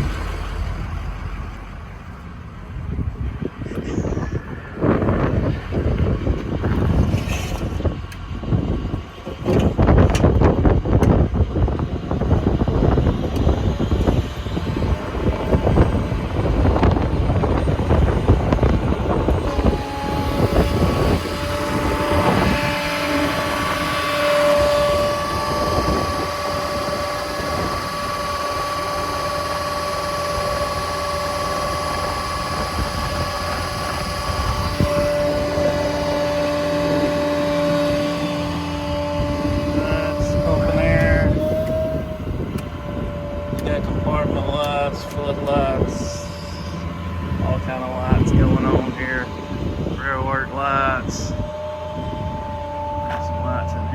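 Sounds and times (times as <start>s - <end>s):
steady multi-tone whine: 0.0s - 53.9s
truck engine rumbling: 0.0s - 53.9s.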